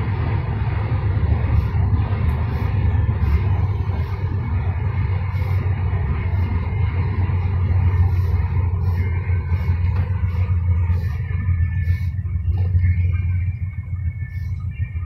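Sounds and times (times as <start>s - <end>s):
engine and tyre rumble: 0.0s - 15.0s.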